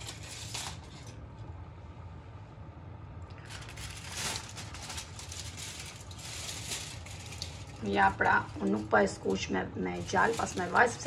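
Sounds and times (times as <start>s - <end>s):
aluminium foil crinkling: 0.0s - 1.2s, 3.3s - 11.0s
low steady hum: 0.0s - 11.0s.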